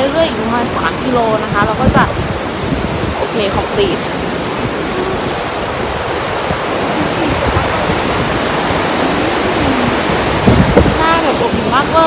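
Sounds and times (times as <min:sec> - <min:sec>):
whitewater rushing over rapids: 0:00.0 - 0:12.0.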